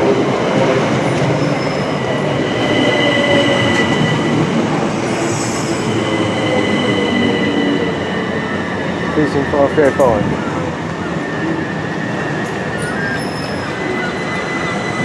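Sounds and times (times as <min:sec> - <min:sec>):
train rumble: 0:00.0 - 0:15.0
high-pitched wheel squeal: 0:01.0 - 0:15.0.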